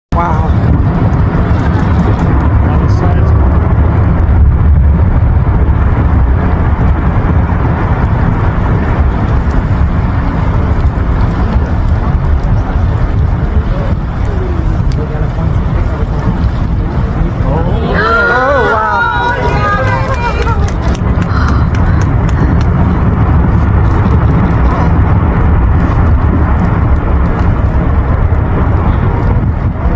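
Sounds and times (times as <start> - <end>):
wind buffeting microphone: 0.1 - 29.9
glacier ice crashing rumble: 0.2 - 29.9.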